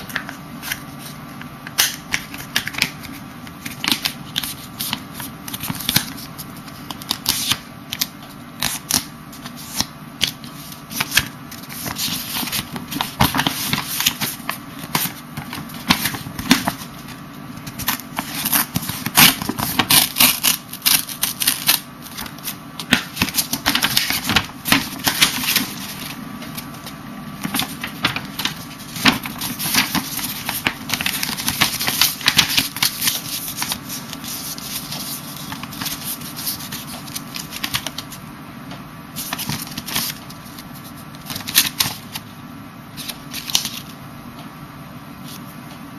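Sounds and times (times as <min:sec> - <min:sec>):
paper rustling and crackling: 0:01.8 - 0:38.2, 0:39.2 - 0:42.2, 0:43.0 - 0:44.0.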